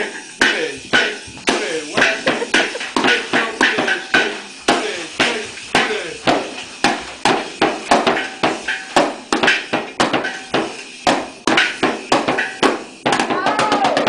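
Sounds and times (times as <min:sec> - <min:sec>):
toy drum set hits: 0:00.0 - 0:14.0.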